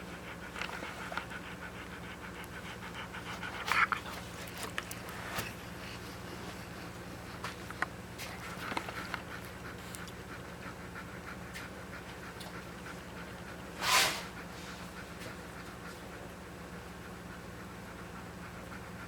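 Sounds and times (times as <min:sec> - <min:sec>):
dog panting: 0:00.0 - 0:19.0
steady low hum: 0:00.0 - 0:19.0.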